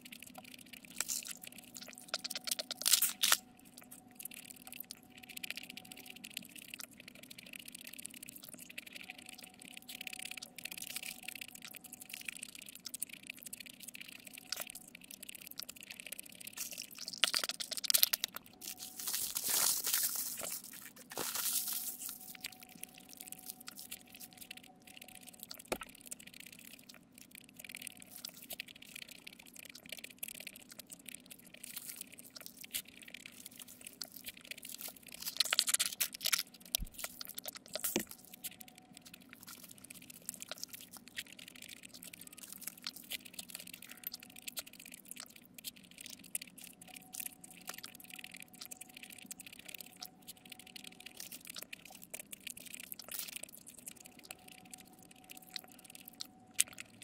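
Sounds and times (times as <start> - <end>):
crackly crunch: 0.0 - 57.0
wet chewing and mouth clicks: 0.0 - 57.0.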